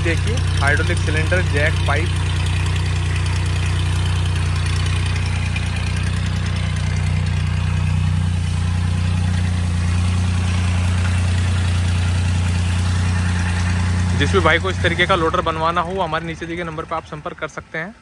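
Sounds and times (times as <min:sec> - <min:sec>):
tractor diesel engine humming: 0:00.0 - 0:18.0.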